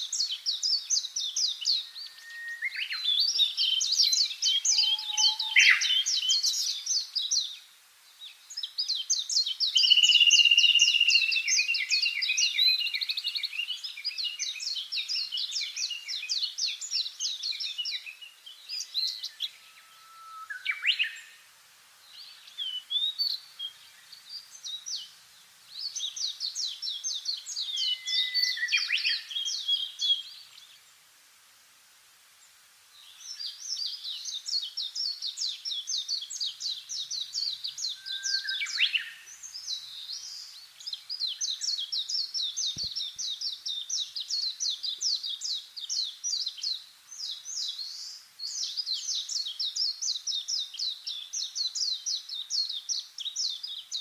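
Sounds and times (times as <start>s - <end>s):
down-swept bird calls: 0.0s - 7.6s, 8.6s - 21.5s, 25.8s - 30.8s, 33.1s - 54.0s
songbirds chirping and trilling: 0.0s - 54.0s.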